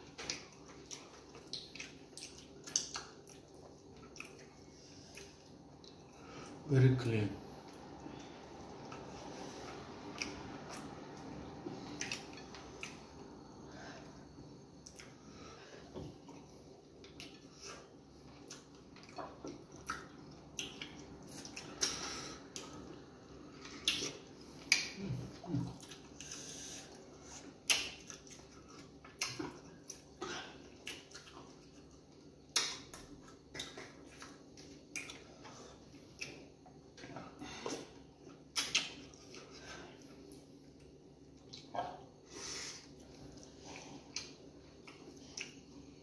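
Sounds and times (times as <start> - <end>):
people chewing wetly: 0.0 - 6.6, 7.4 - 46.0.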